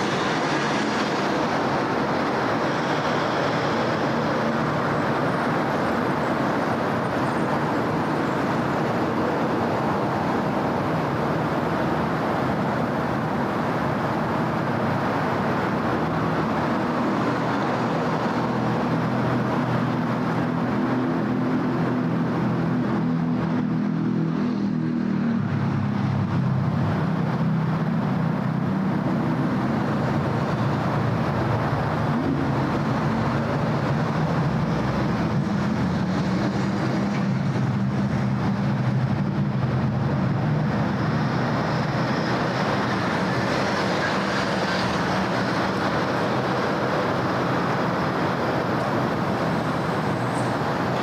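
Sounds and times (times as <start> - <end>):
road traffic noise: 0.0 - 51.0
vehicle engines humming: 0.0 - 51.0.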